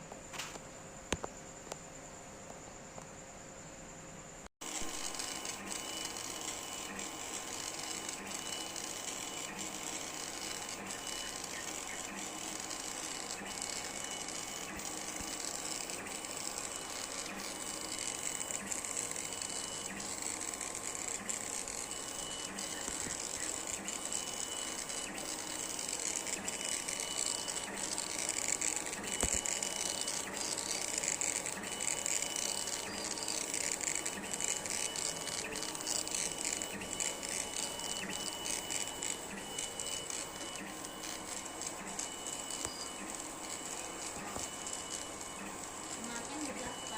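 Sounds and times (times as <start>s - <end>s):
laser cutter motors whining: 4.6s - 46.9s.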